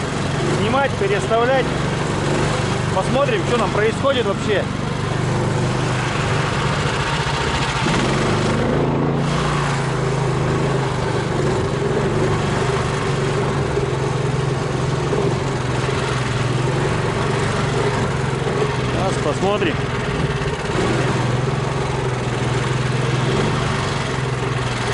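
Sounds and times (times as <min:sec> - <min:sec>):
all-terrain vehicle engine running: 0:00.0 - 0:24.9.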